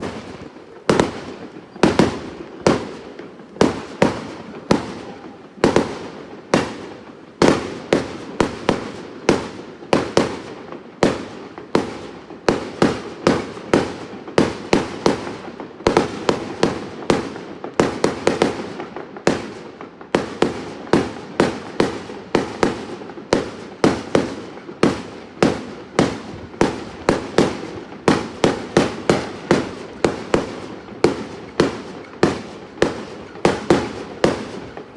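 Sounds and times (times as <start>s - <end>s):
fireworks bangs: 0.0s - 34.9s
rumble of firework bursts: 0.0s - 34.9s.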